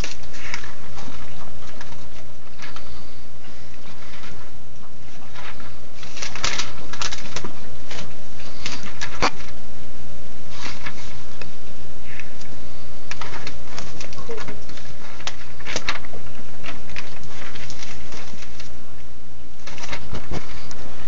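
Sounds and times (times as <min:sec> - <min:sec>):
paper rustling and crinkling: 0:00.0 - 0:09.6, 0:10.5 - 0:11.5, 0:12.1 - 0:21.0
low hum: 0:00.0 - 0:21.0.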